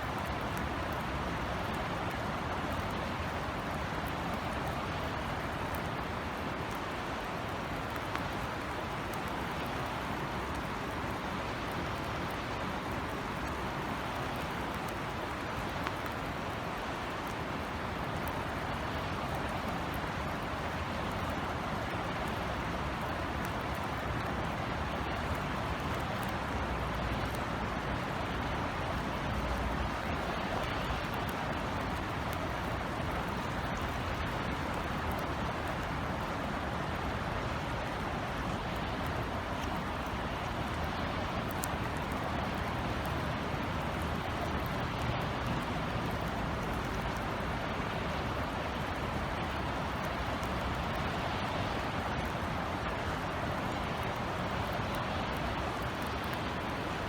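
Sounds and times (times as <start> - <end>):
distant city traffic hum: 0.0 - 57.0
steady rain falling: 0.0 - 57.0.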